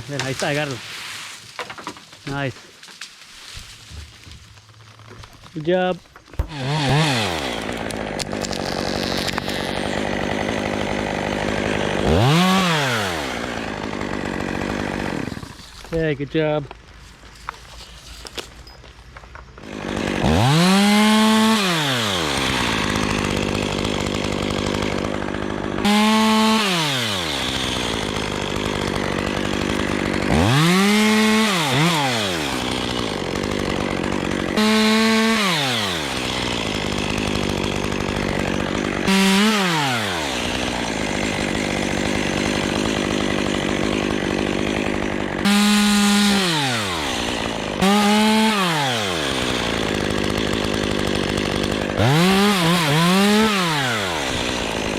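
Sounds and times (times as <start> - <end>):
chainsaw engine revving: 6.4 - 16.0, 19.6 - 54.9.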